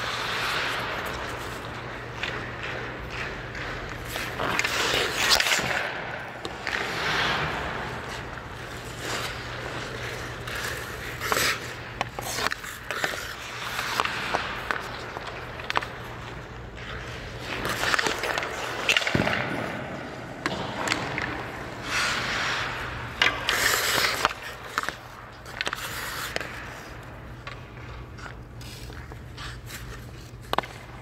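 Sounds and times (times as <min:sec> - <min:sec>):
hockey stick hitting puck: 0:00.0 - 0:31.0
skates scraping on ice: 0:00.0 - 0:31.0.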